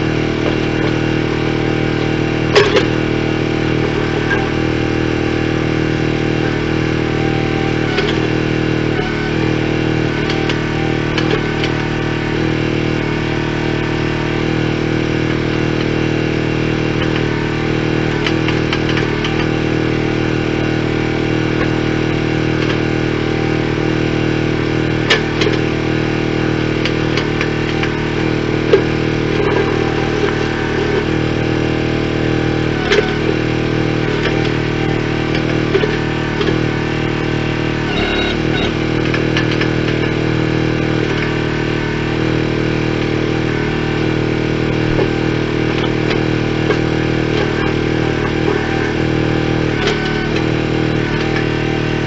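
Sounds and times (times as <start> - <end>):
engine running steadily: 0.0 - 52.0.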